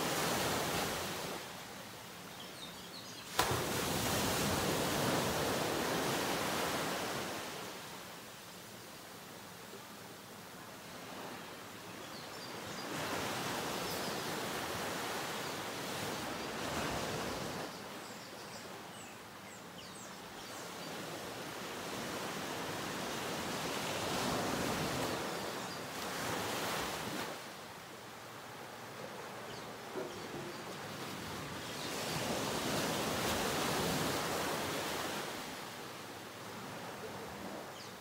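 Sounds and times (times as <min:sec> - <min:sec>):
ocean waves on sandy shore: 0:00.0 - 0:02.2, 0:03.1 - 0:19.4, 0:20.2 - 0:38.0.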